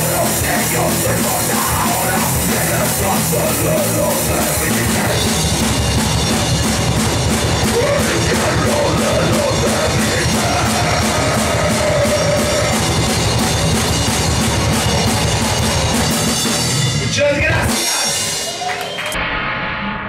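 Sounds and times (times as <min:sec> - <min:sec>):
rock band playing: 0:00.0 - 0:19.8.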